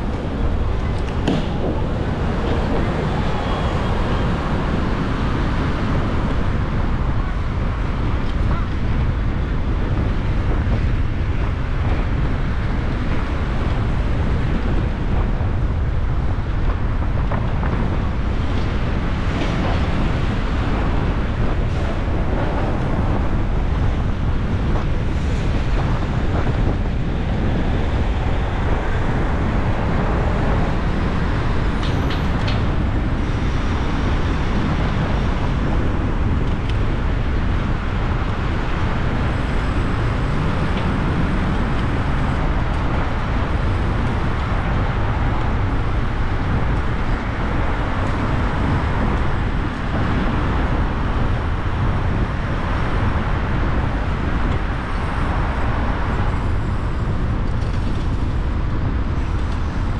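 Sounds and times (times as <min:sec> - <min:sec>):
faint traffic: 0:00.0 - 0:59.9
road and wind rumble: 0:00.0 - 0:59.9.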